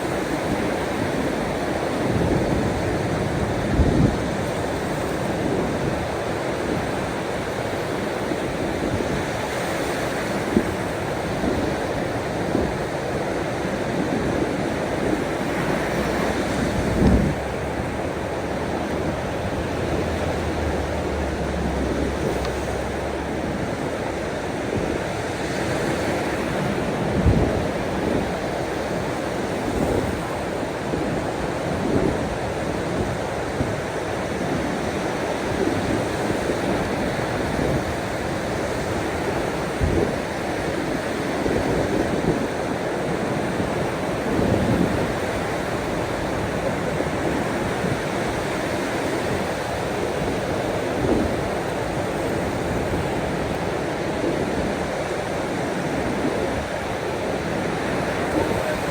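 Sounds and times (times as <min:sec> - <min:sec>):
sea waves breaking on shore: 0:00.0 - 0:58.9.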